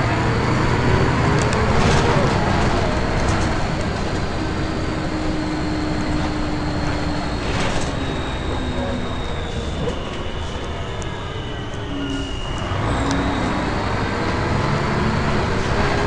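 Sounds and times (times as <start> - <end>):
bus engine running: 0.0 - 16.0
high-pitched whine: 0.0 - 16.0
road noise: 0.0 - 16.0.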